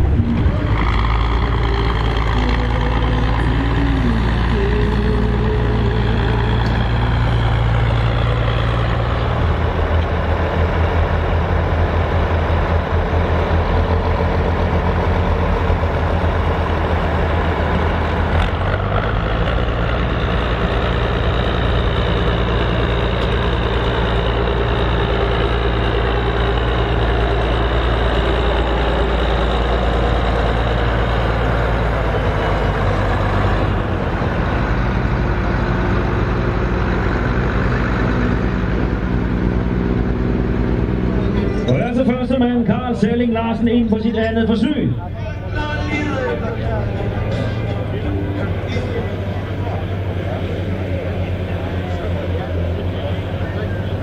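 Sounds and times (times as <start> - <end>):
tractor diesel engines running: 0.0 - 54.0.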